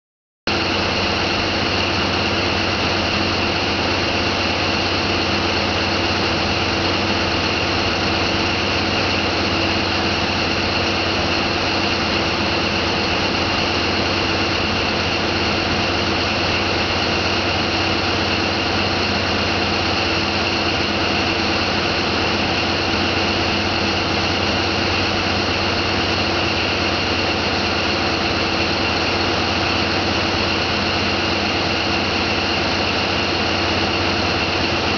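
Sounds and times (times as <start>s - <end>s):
marine engine drone: 0.5s - 34.9s
steady whining tones: 0.6s - 34.9s.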